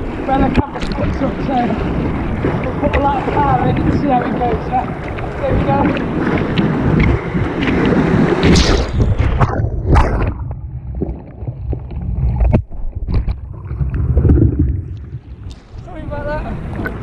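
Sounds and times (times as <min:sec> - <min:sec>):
sharp splashes and knocks: 0:00.0 - 0:15.8
wind buffeting microphone: 0:00.0 - 0:17.0.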